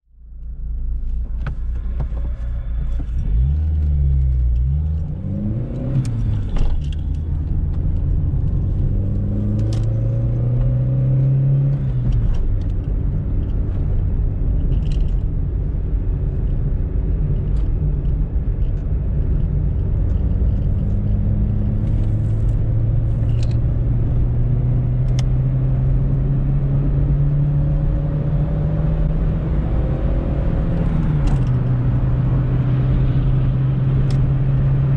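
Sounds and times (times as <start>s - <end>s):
car engine accelerating: 0.3s - 34.9s.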